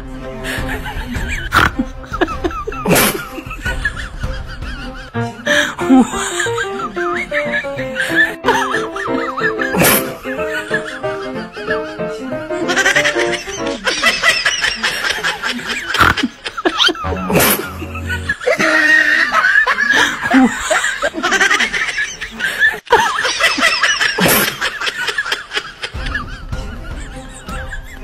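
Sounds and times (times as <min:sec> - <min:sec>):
snickering giggling laughter: 0:00.4 - 0:28.0.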